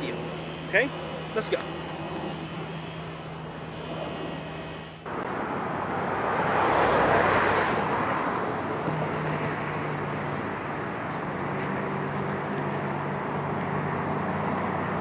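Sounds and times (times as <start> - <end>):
steady low hum: 0.0 - 14.2
vehicle passing: 0.0 - 15.0.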